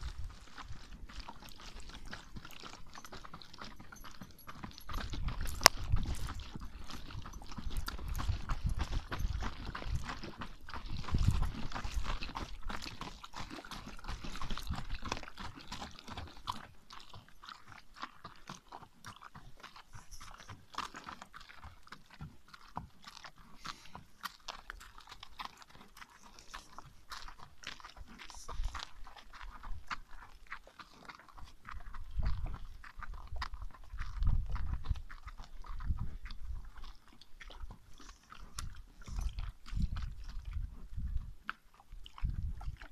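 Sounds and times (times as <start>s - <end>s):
hooves crunching on gravel: 0.0s - 42.9s.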